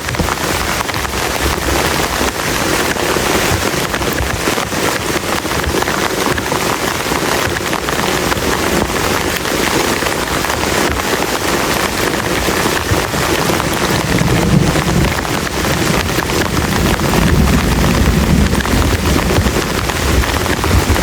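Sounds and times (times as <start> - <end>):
heavy rain drumming on a tarp: 0.0 - 21.0.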